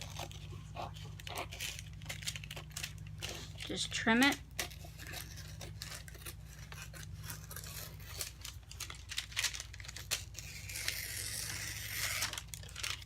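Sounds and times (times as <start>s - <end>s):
paper crinkling: 0.0s - 13.0s
scissors cutting paper: 0.0s - 13.0s.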